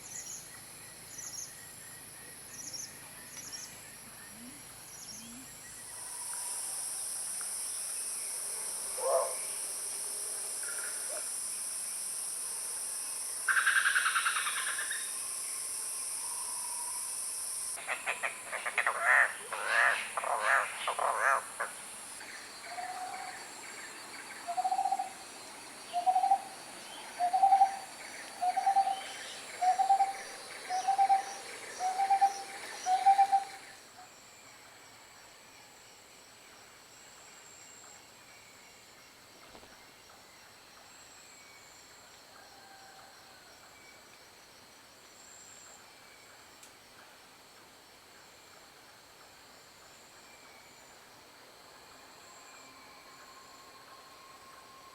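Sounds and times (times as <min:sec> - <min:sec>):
insect whine: 0:00.0 - 0:54.9.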